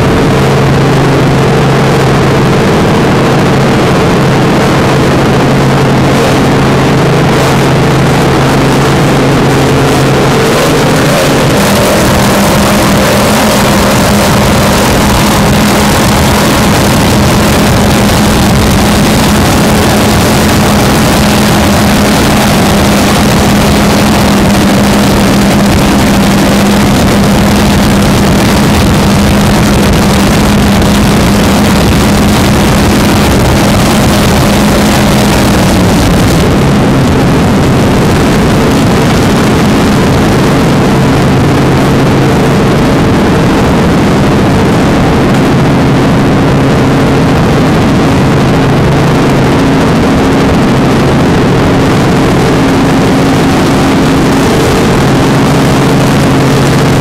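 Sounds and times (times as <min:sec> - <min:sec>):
boat engines droning: 0:00.0 - 0:57.0.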